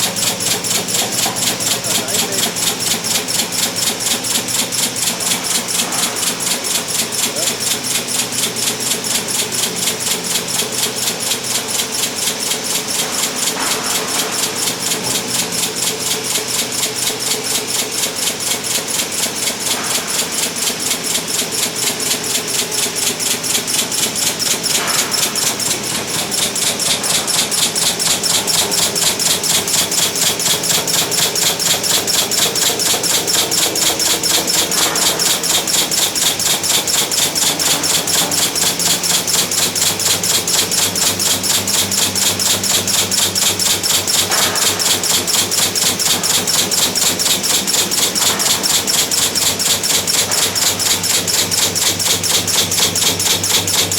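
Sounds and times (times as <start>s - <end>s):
spot welder pulsing: 0.0s - 53.9s.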